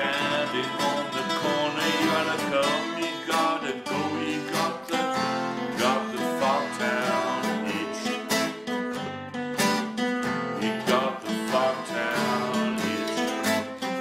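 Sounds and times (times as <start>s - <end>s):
acoustic guitars strumming: 0.0s - 14.0s.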